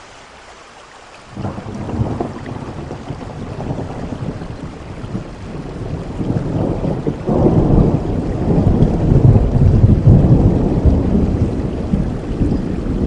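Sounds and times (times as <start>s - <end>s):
rain hissing: 0.0s - 13.0s
thunder rumbling: 1.3s - 13.0s.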